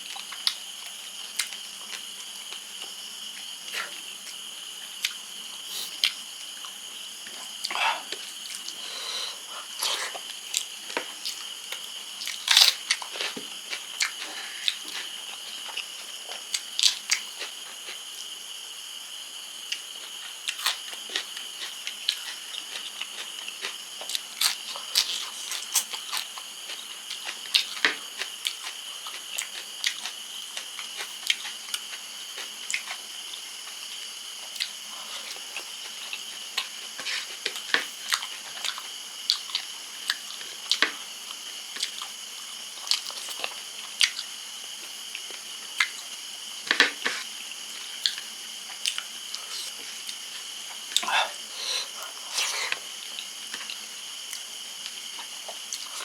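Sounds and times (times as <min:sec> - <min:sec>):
person chewing crunchy food: 0:00.1 - 0:18.1, 0:19.6 - 0:46.1, 0:47.0 - 0:56.0.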